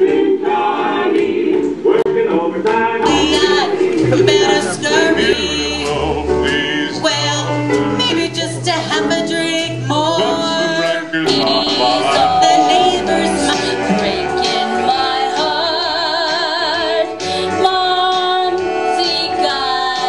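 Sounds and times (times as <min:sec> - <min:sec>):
voices singing: 0:00.0 - 0:20.0
instrumental accompaniment with bass: 0:02.8 - 0:20.0.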